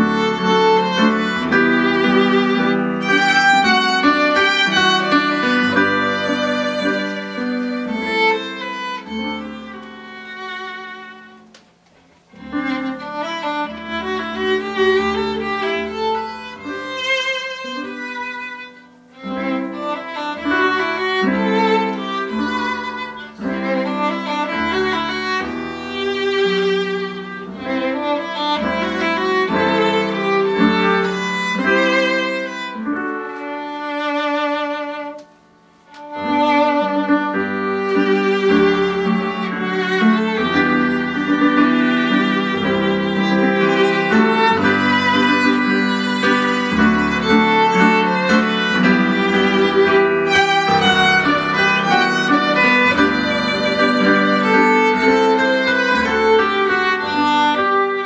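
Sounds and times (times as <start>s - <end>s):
violin playing slow melody: 0.0s - 11.6s, 12.2s - 58.0s.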